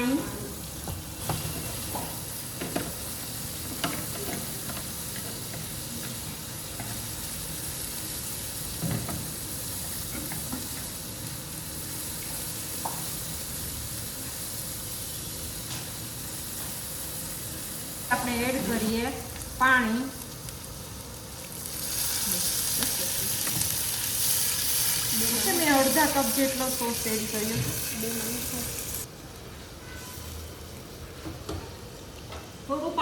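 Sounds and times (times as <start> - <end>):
garlic sizzling in a pan: 0.0 - 29.1.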